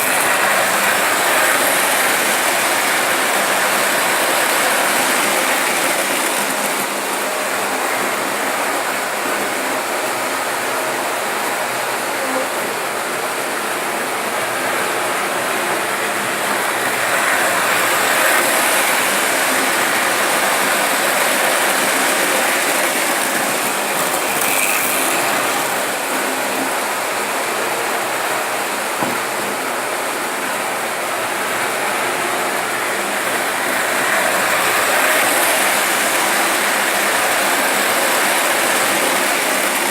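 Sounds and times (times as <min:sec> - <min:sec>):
model train wheels and motors whirring: 0:00.0 - 0:39.9.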